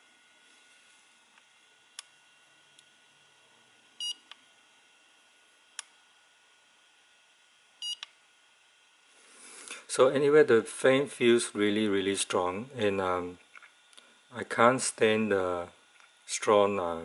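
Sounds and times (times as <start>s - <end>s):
faint cooling fan hum: 0.0s - 17.0s.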